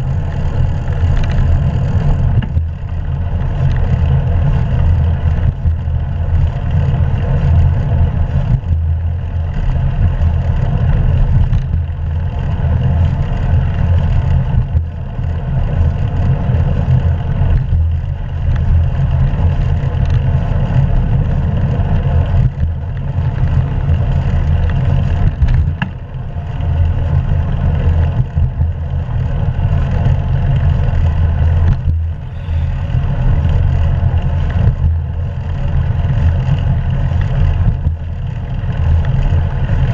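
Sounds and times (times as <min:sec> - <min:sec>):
bicycle tyre and road noise: 0:00.0 - 0:39.9.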